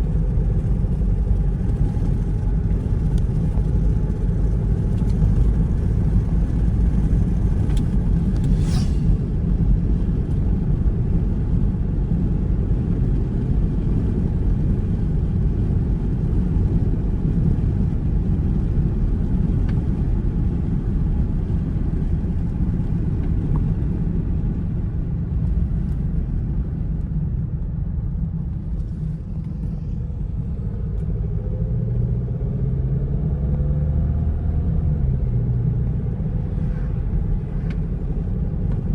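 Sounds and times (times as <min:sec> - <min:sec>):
car driving engine and road noise: 0:00.0 - 0:38.9.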